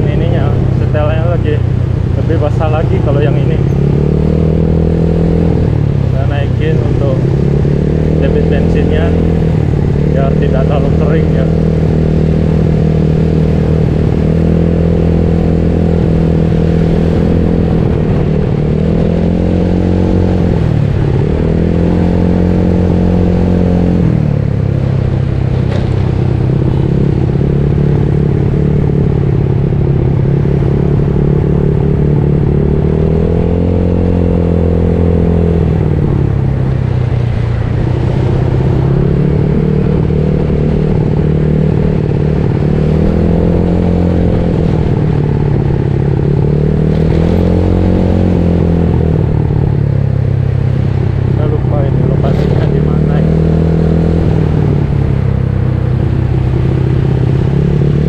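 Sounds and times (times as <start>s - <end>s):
scooter engine revving: 0.0s - 58.0s.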